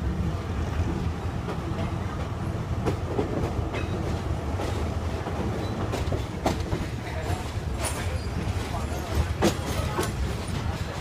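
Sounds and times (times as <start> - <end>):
train wheels rumbling on track: 0.0 - 11.0
wheels clicking over rail joints: 1.4 - 11.0.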